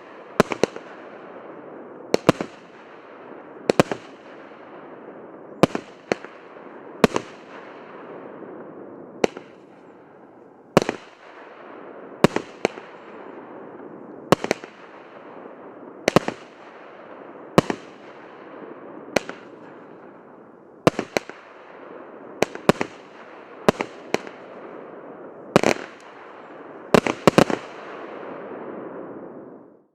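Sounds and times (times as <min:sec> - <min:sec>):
fireworks bangs: 0:00.0 - 0:29.7.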